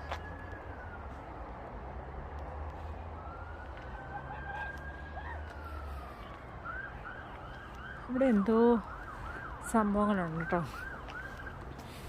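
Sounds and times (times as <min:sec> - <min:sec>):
siren wailing: 0:00.0 - 0:02.4, 0:03.0 - 0:11.7.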